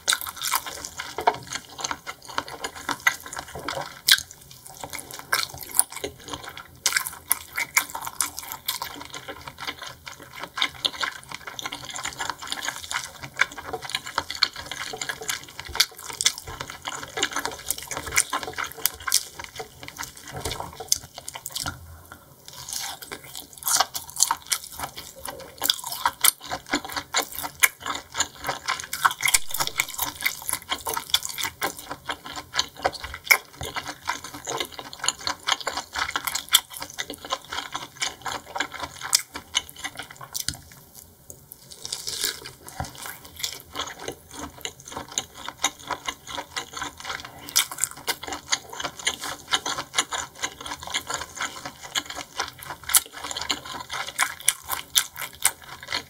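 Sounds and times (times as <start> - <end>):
wet chewing of seafood: 0.0 - 56.0.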